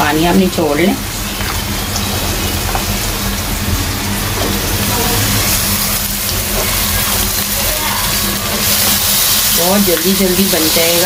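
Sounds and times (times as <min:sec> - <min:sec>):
food sizzling in hot oil: 0:00.0 - 0:11.0
steady low hum: 0:00.0 - 0:11.0.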